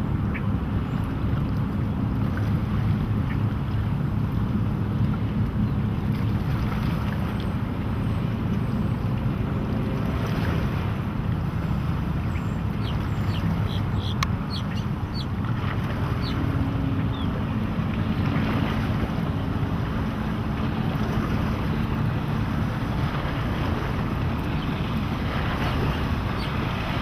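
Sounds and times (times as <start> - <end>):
boat engines running: 0.0 - 27.0
water rushing: 0.0 - 27.0
wind on microphone: 0.0 - 27.0.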